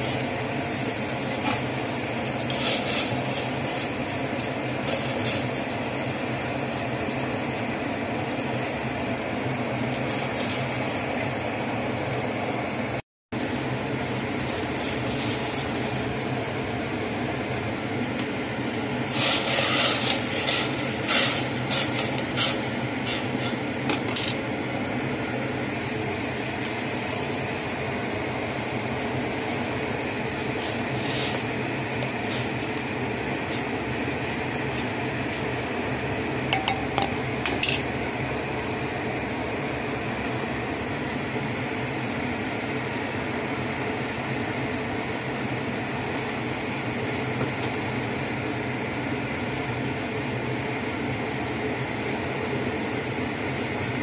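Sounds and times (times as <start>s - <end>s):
low mechanical hum: 0.0s - 54.0s
water boiling in a pot: 0.0s - 54.0s.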